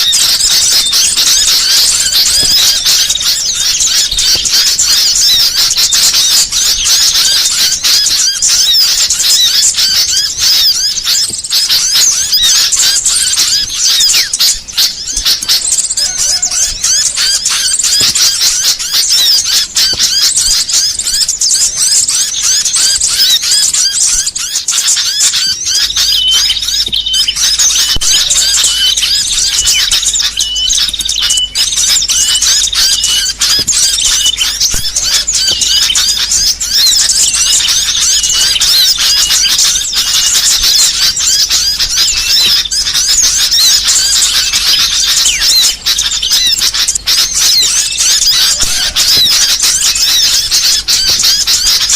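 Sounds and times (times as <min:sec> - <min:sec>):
songbirds twittering and chirping: 0:00.0 - 0:51.9.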